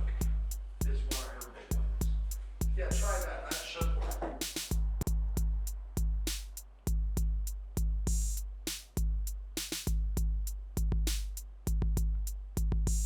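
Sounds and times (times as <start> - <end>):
drum-machine beat: 0.0 - 13.0.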